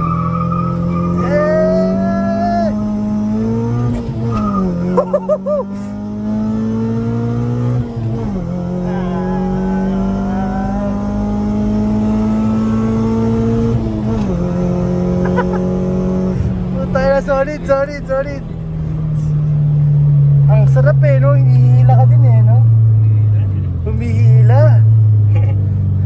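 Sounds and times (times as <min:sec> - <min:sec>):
car engine accelerating through gears: 0:00.0 - 0:26.0.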